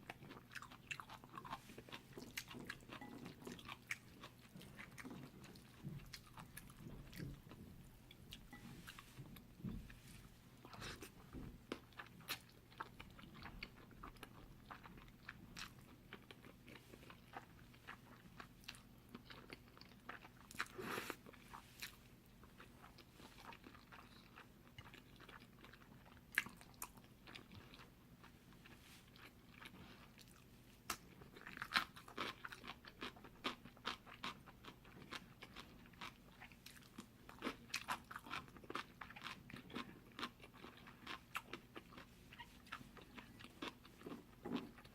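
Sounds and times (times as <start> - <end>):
wet chewing of noodles: 0.0 - 44.9.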